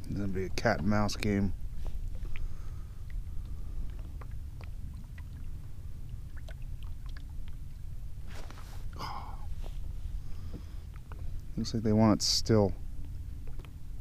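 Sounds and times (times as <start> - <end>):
water sloshing against kayak hull: 0.0 - 11.6
low rumble: 0.0 - 11.7.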